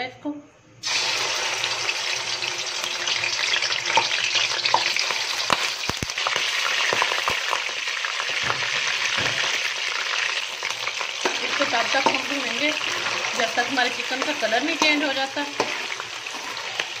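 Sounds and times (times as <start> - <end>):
chicken sizzling in hot oil: 0.8 - 17.0.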